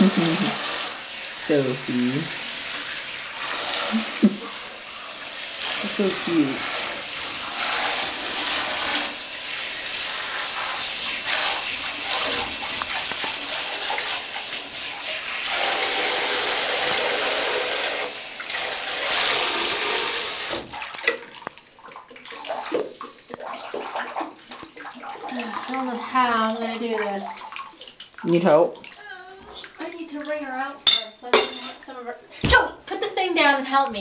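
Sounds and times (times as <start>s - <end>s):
water splashing and sloshing: 0.0s - 32.7s
bath tap running into water: 0.0s - 34.0s.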